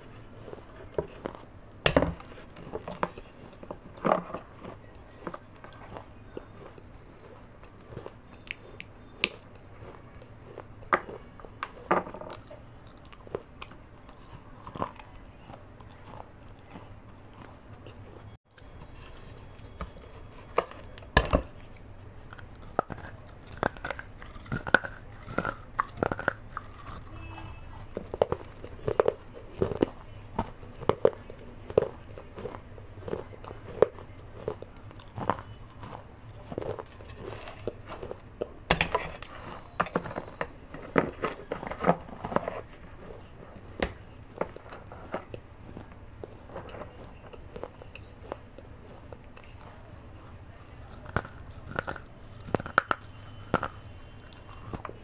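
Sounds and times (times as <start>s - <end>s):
biting and chewing baked clay: 0.0s - 55.0s.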